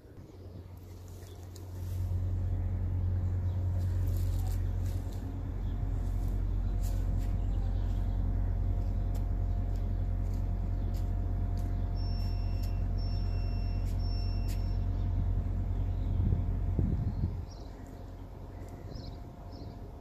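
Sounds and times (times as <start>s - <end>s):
faint hum: 0.0s - 20.0s
steady low rumble: 0.0s - 20.0s.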